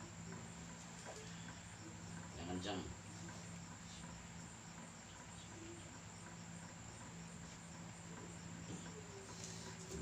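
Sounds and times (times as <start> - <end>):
insect chirping trill: 0.0 - 10.0
low steady hum: 0.0 - 10.0.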